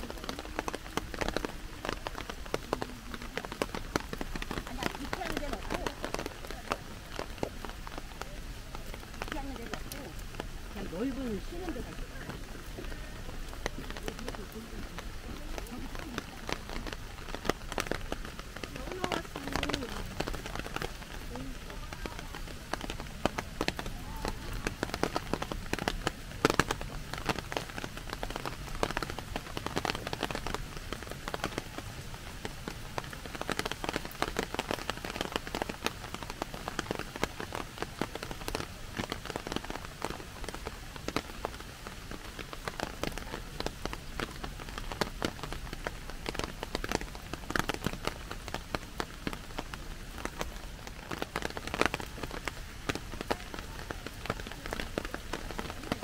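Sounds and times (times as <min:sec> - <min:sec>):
rain hissing in trees: 0:00.0 - 0:56.0
rain pattering on plastic umbrella: 0:00.0 - 0:56.0.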